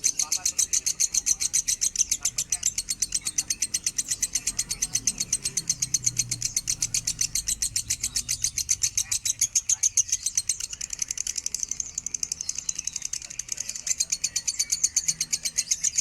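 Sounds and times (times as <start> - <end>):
bird chattering high-pitched chirps: 0.0 - 16.0.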